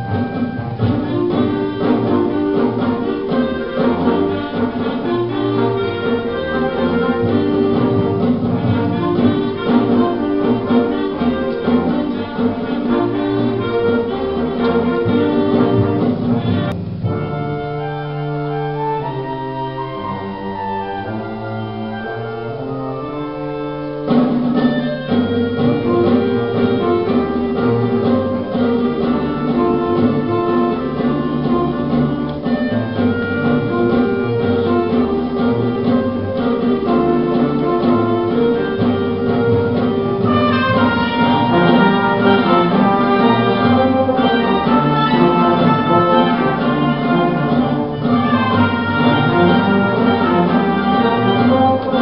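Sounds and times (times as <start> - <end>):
wind band playing: 0.0 - 52.0.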